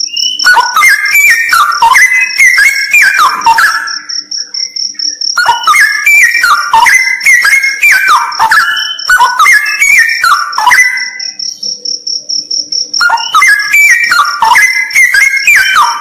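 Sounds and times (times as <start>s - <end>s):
bulbul singing whistled phrases: 0.0s - 12.0s, 12.6s - 16.0s
high insect trill: 0.0s - 16.0s.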